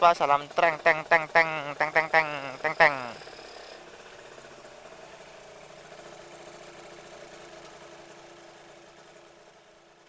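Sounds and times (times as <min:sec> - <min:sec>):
two-stroke motorcycle engine idling: 0:00.0 - 0:10.0.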